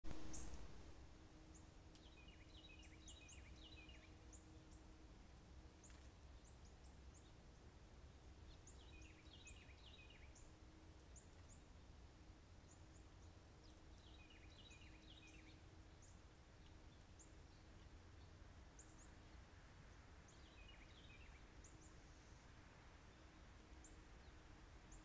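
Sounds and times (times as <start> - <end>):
low steady hum: 0.0 - 25.0
songbird chirps: 0.0 - 25.0.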